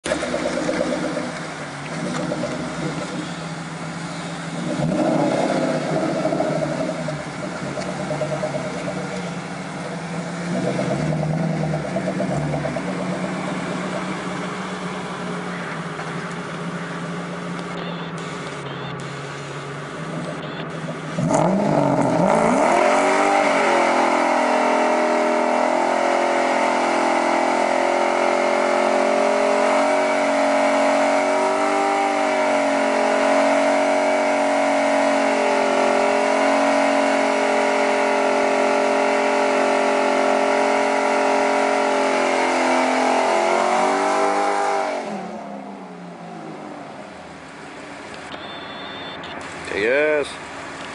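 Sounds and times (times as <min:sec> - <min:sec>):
car engine revving high: 0:00.0 - 0:50.9.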